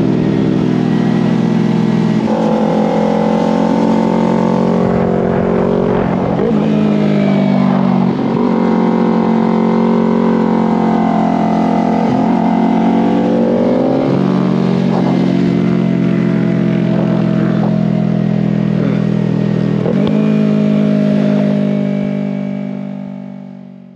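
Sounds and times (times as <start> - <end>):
motorcycle engine at high revs: 0.0 - 23.9.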